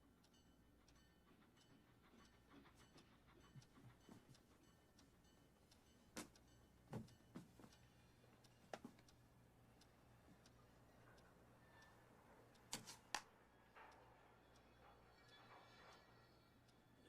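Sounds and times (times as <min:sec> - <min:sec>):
soft clicks: 0:01.6 - 0:16.0.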